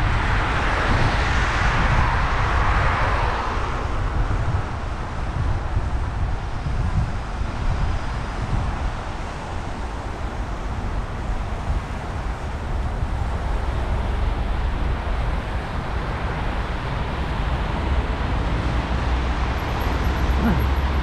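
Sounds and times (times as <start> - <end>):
traffic on wet street: 0.0 - 21.0
wind rush on microphone: 0.0 - 21.0.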